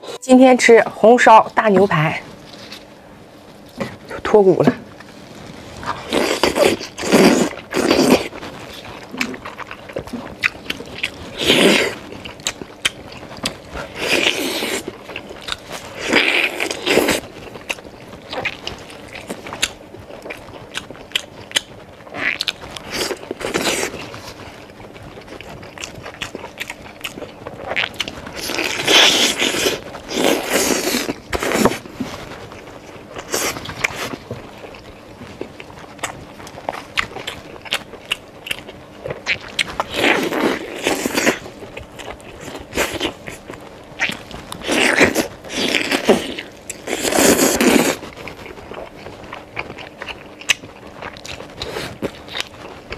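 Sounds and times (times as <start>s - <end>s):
biting and chewing: 5.8s - 52.9s.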